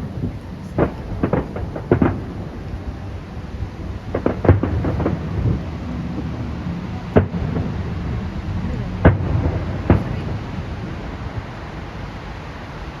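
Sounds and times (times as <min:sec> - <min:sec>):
fireworks bursting: 0:00.0 - 0:13.0
low rumble: 0:00.0 - 0:13.0.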